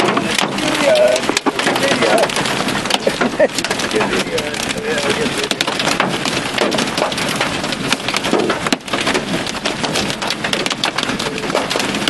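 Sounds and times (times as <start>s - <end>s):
hail rattling: 0.0s - 12.0s
heavy rain rushing: 0.0s - 12.0s.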